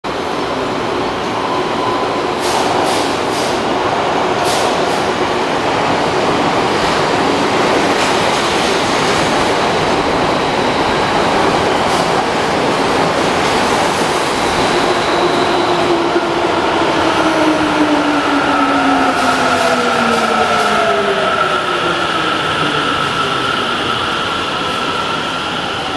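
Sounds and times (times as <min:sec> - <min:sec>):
train wheel and track rumble: 0:00.0 - 0:25.9.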